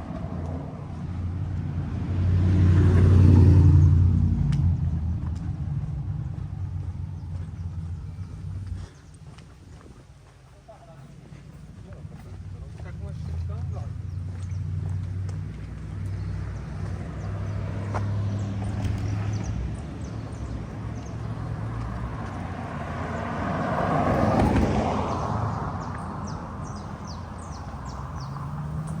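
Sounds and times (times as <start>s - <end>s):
vehicle passing by: 0.0s - 9.6s, 11.2s - 29.0s
low engine-like hum: 3.0s - 9.5s, 10.9s - 29.0s.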